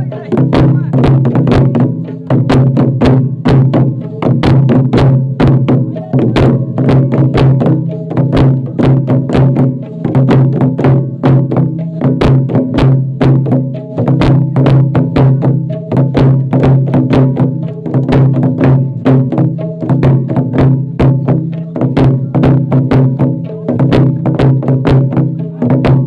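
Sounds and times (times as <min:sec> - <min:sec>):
fast drum rhythm: 0:00.0 - 0:26.0.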